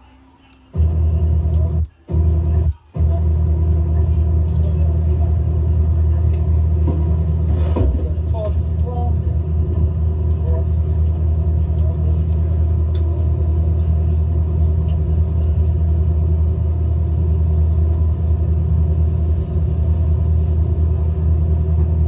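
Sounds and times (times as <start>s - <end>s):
boat engine rumbling: 0.8s - 22.0s.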